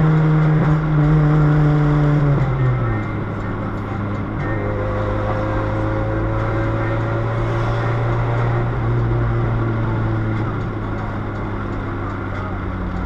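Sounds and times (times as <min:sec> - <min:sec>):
raspy car engine through exhaust: 0:00.0 - 0:13.0.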